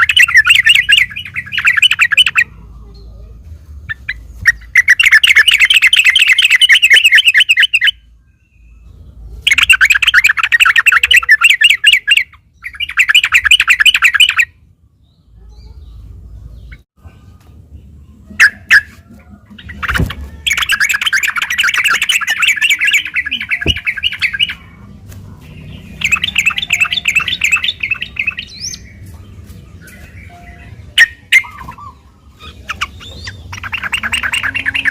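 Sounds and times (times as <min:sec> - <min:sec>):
bulbul chattering song: 0:00.0 - 0:34.9.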